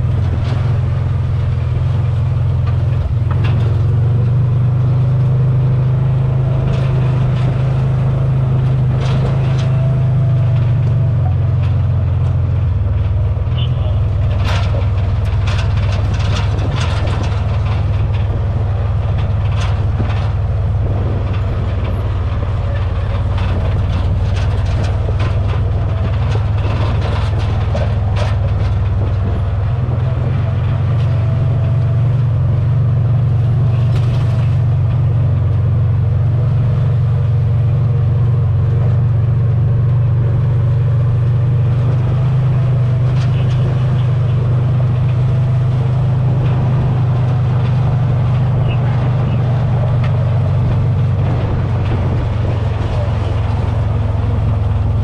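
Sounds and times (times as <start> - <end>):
knocks and rattles over bumps: 0.0 - 55.0
utility vehicle engine running: 0.0 - 55.0.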